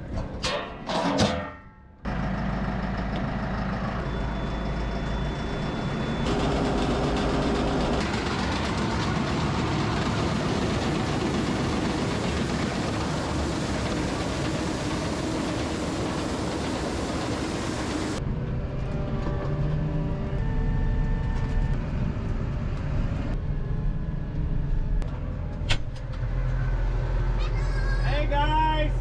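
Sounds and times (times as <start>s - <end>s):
tractor engine rumbling and rattling: 0.0s - 28.0s.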